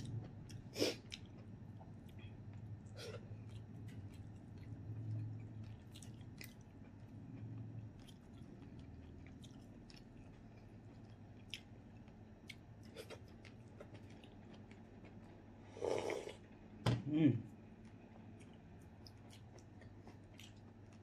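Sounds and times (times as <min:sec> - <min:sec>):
person chewing food: 0:00.0 - 0:16.5, 0:17.8 - 0:21.0.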